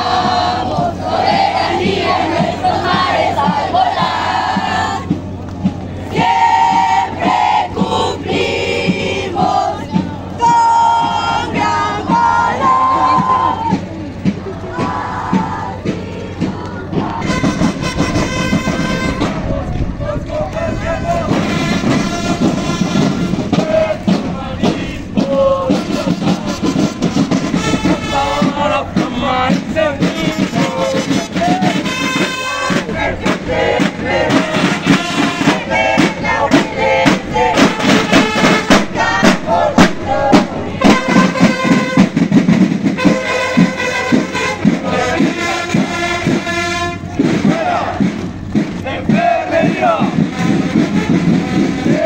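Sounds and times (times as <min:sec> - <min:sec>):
marching band playing: 0:00.0 - 0:52.0
rapid drum strokes: 0:00.0 - 0:52.0
horns playing a tune: 0:06.0 - 0:52.0.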